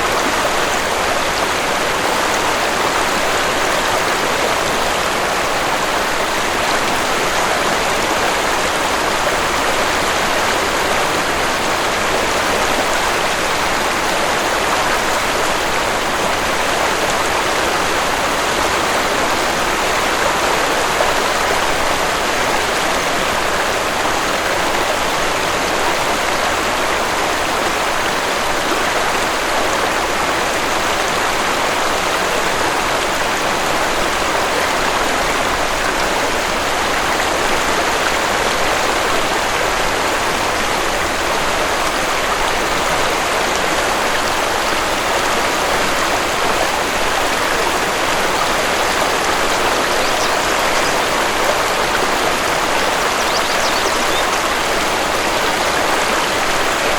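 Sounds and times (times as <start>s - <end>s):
waterfall and stream rushing: 0.0s - 56.9s.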